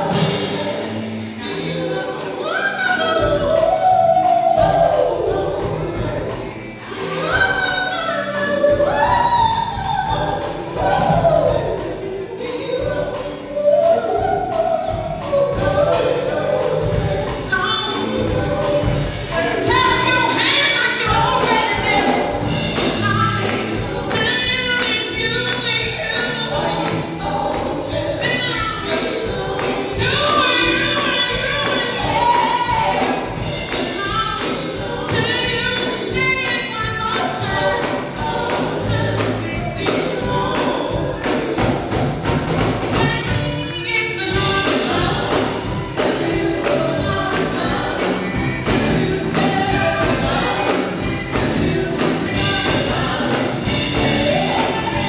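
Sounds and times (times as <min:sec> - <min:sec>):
bass: 0:00.0 - 0:55.0
church band playing: 0:00.0 - 0:55.0
steady drum beat: 0:00.0 - 0:55.0
women singing gospel in harmony: 0:00.0 - 0:55.0.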